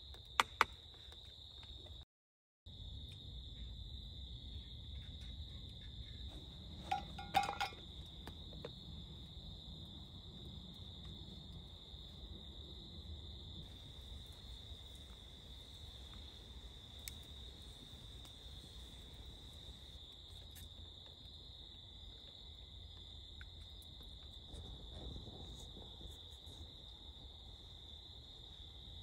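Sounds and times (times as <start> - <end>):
crickets chirring: 2.7 - 29.0.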